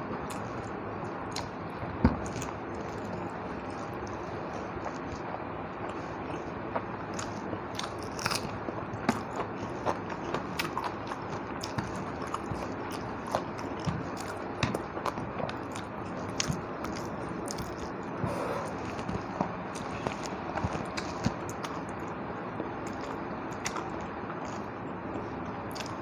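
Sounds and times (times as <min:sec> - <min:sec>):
person chewing food: 0:00.1 - 0:22.2, 0:22.8 - 0:24.7, 0:25.7 - 0:26.0.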